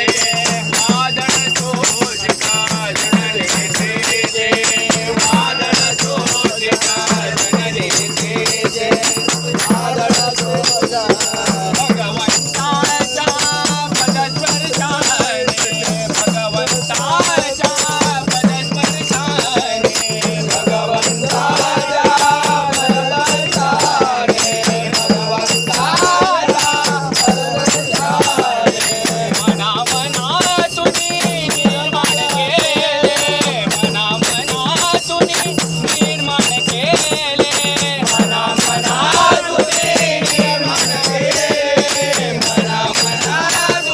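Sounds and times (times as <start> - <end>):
group singing devotional song: 0.0 - 43.9
rattling jingle of hand percussion: 0.0 - 43.9.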